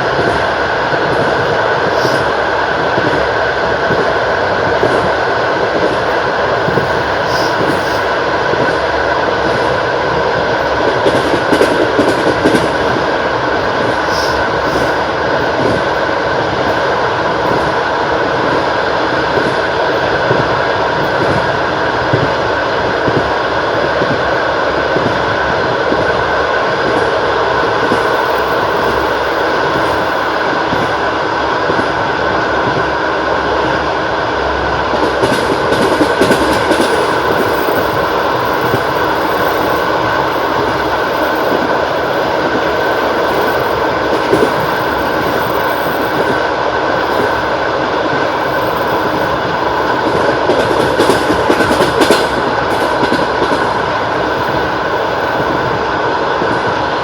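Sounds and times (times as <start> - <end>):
train wheels clattering over rails: 0.0 - 32.0, 34.9 - 56.8.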